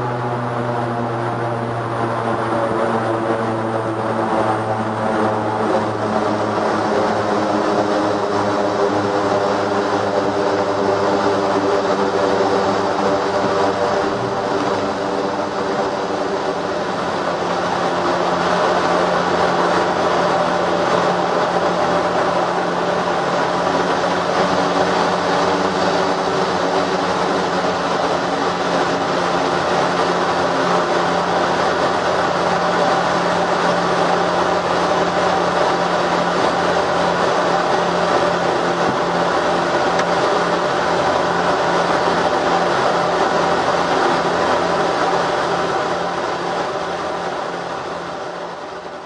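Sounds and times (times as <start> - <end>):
turboprop engines droning: 0.0 - 49.0.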